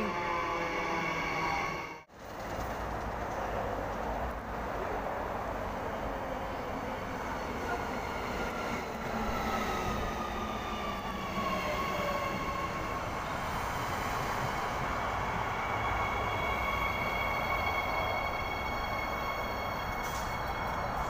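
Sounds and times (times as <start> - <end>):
train cars rumbling: 0.0 - 21.0.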